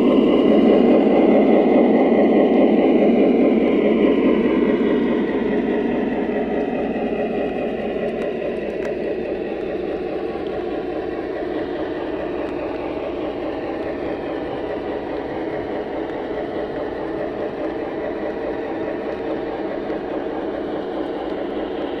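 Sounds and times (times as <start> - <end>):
model train rolling on track: 0.0 - 22.0.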